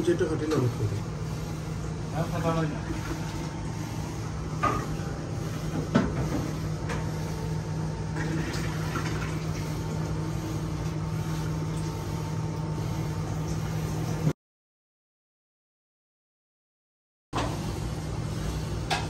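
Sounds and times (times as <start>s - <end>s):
low machine hum: 0.0s - 14.4s, 17.4s - 19.0s.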